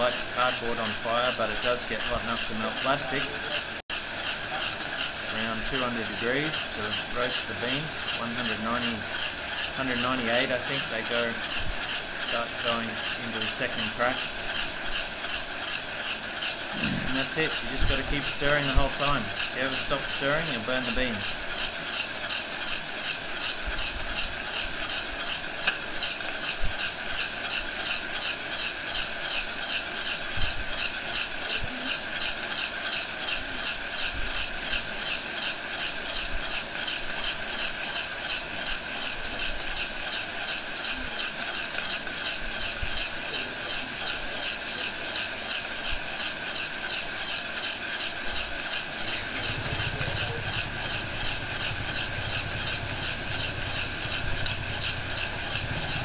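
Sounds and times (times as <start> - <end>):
coffee beans rattling in a pot: 0.0 - 56.0.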